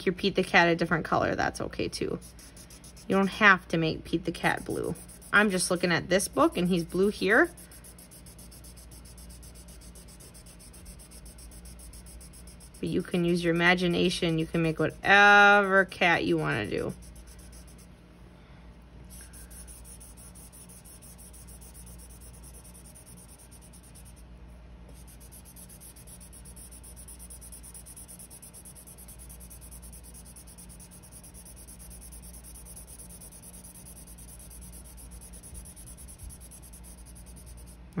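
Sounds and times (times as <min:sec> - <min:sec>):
felt-tip marker scratching paper: 0:02.1 - 0:03.5, 0:04.3 - 0:14.8, 0:16.3 - 0:17.9, 0:19.1 - 0:24.2, 0:24.9 - 0:37.8.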